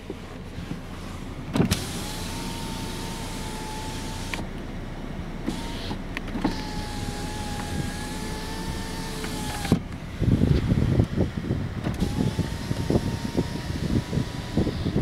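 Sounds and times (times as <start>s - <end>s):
power window motor whining: 0.5s - 4.6s, 5.4s - 10.9s, 11.8s - 15.0s.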